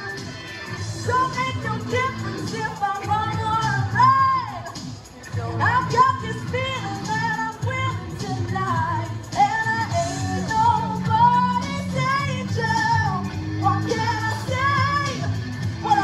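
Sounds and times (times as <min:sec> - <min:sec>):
pop-rock backing music: 0:00.0 - 0:16.0
women singing: 0:00.0 - 0:16.0.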